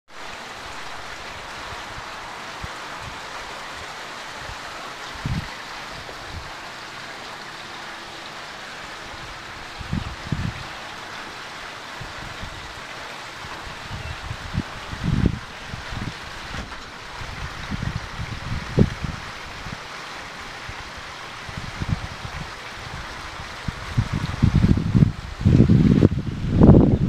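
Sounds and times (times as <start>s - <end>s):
waterfall splashing onto rocks: 0.1s - 27.0s.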